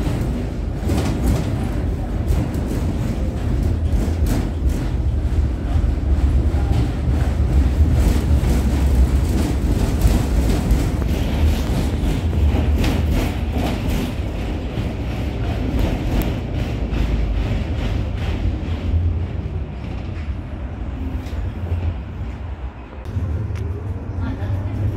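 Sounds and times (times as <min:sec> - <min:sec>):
tram interior rumble: 0:00.0 - 0:24.9.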